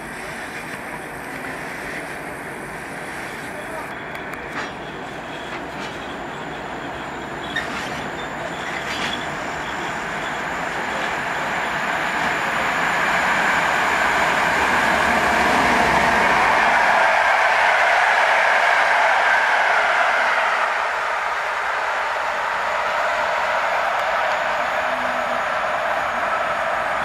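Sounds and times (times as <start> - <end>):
train wheels rushing on rail: 0.0 - 27.0.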